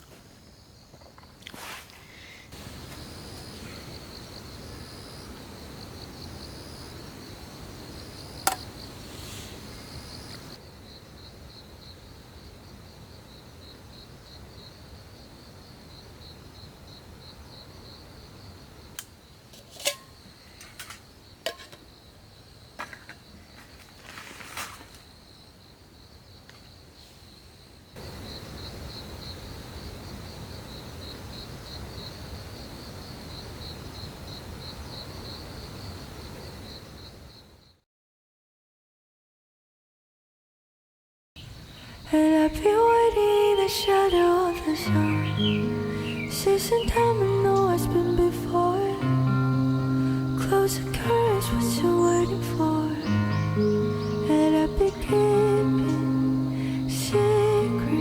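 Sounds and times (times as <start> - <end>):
crickets chirping: 0.0 - 37.8, 41.4 - 58.0.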